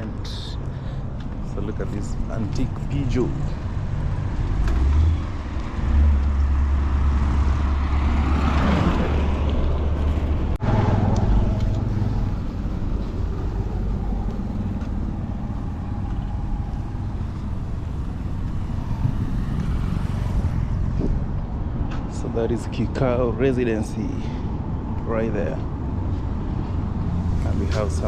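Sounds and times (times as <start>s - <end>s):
car engine hum: 0.0s - 24.2s
road noise: 0.0s - 28.0s.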